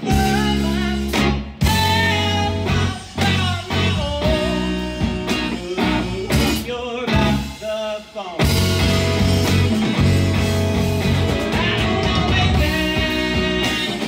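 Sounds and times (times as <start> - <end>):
lead vocal singing: 0.0 - 8.8, 11.3 - 14.0
drums: 0.0 - 14.0
electric bass: 0.0 - 14.0
electric guitar: 0.0 - 14.0.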